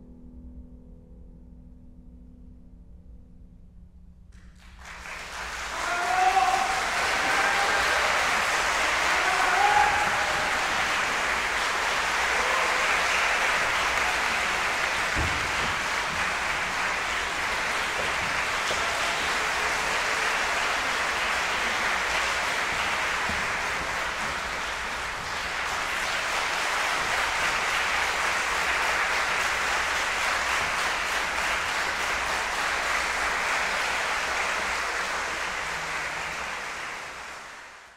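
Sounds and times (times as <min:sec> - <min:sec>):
audience applauding: 0:04.4 - 0:37.9.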